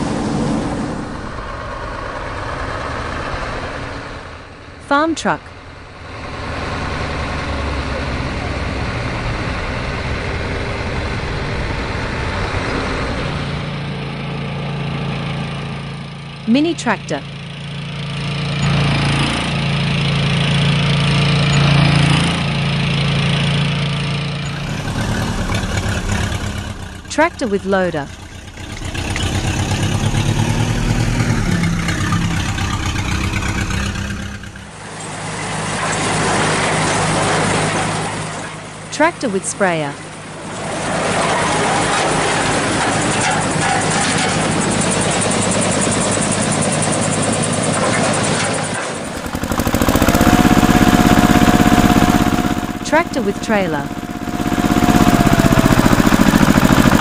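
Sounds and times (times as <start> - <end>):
truck engine driving off: 0.0 - 57.0.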